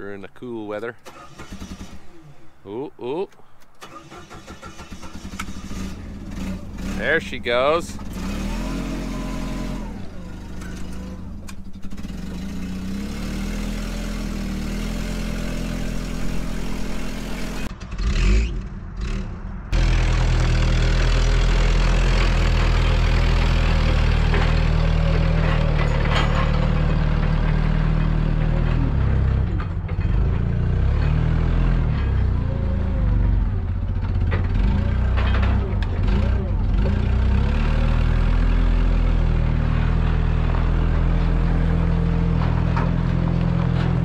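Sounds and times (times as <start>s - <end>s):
forklift engine running: 0.9s - 2.6s, 3.8s - 44.0s.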